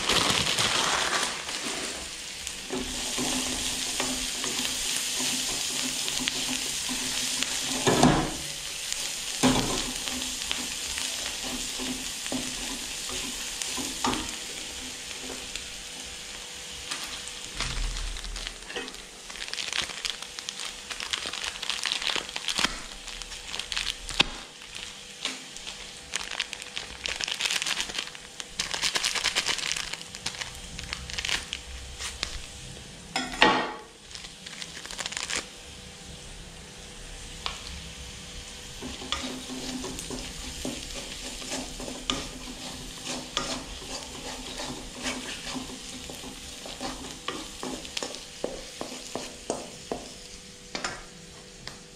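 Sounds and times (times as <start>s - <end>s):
food sizzling in a wok: 0.0s - 51.9s.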